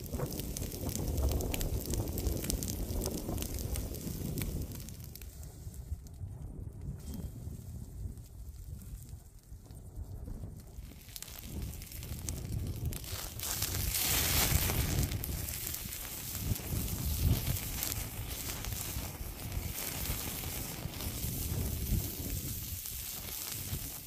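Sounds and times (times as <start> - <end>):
roast sizzling on a charcoal grill: 0.0 - 24.0.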